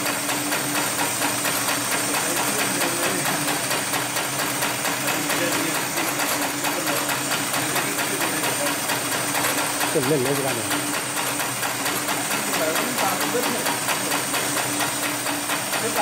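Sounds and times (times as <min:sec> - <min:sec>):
sewing machine stitching: 0:00.0 - 0:16.0.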